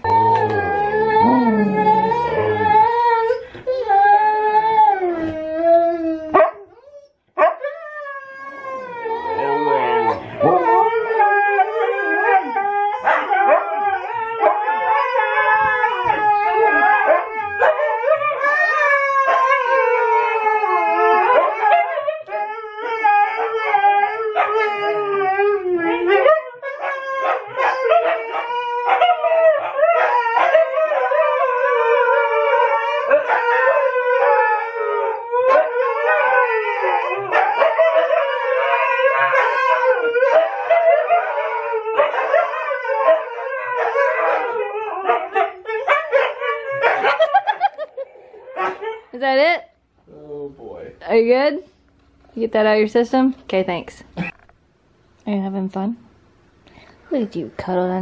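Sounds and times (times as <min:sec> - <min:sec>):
dogs howling together: 0:00.0 - 0:49.2.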